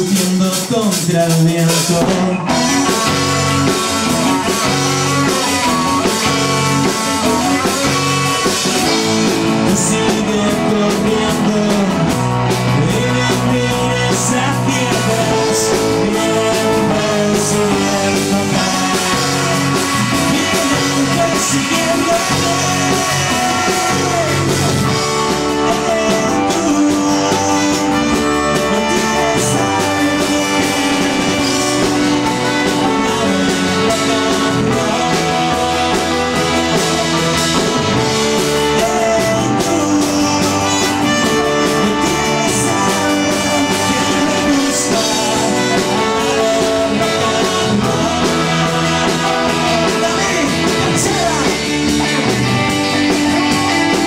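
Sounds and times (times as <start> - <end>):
rock band playing: 0.0 - 54.0
trumpet playing: 2.2 - 54.0.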